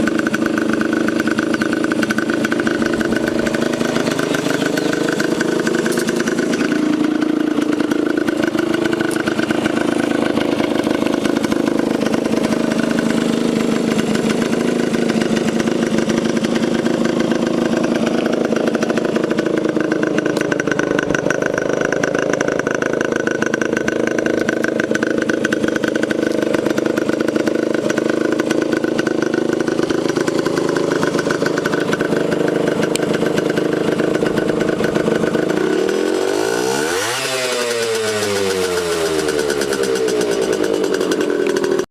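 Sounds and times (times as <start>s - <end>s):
two-stroke engine idling: 0.0s - 41.9s.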